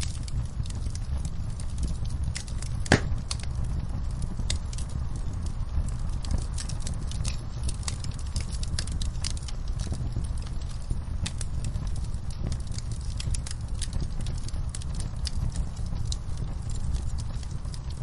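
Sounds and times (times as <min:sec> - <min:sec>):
fire crackling and popping: 0:00.0 - 0:18.0
low steady rumble: 0:00.0 - 0:18.0.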